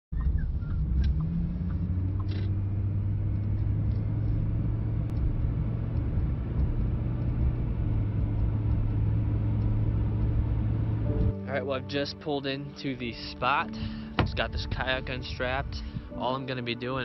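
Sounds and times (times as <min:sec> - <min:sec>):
vehicle engine and road drone: 0:00.1 - 0:17.0.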